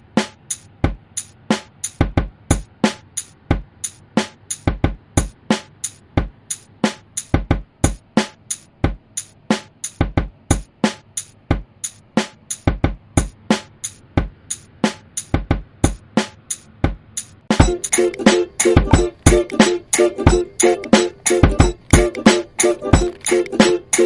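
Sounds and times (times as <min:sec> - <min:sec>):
drum machine beat: 0:00.1 - 0:24.0.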